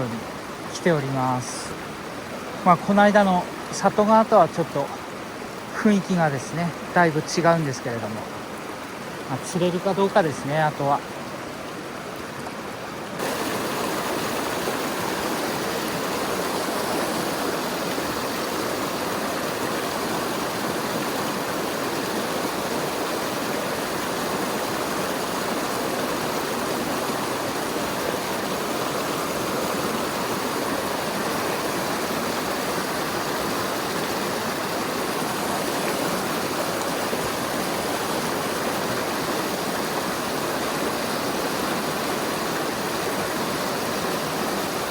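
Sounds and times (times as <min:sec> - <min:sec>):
mountain stream water rushing: 0:00.0 - 0:44.9.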